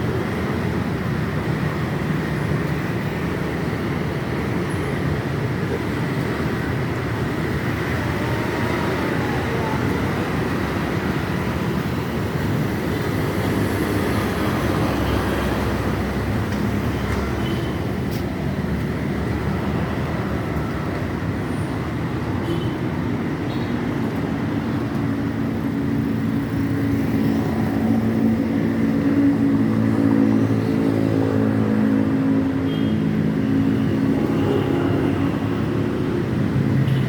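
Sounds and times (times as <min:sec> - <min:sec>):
moving vehicle running noise: 0:00.0 - 0:37.0.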